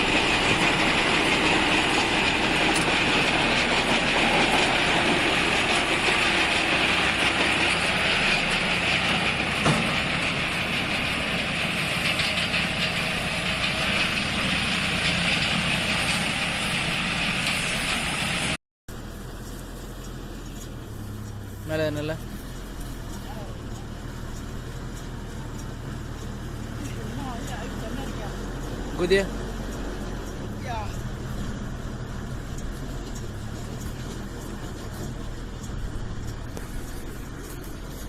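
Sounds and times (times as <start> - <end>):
baler mechanical clatter: 0.0 - 38.0
engine hum: 0.0 - 38.0.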